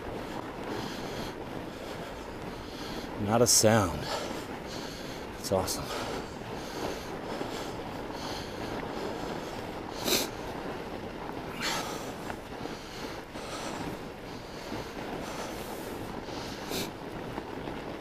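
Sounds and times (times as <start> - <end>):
bike tires rolling on snow: 0.0 - 18.0.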